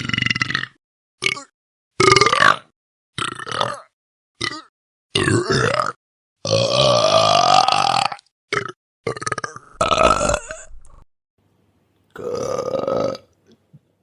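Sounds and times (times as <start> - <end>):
person burping: 0.0 - 11.0, 12.2 - 13.3.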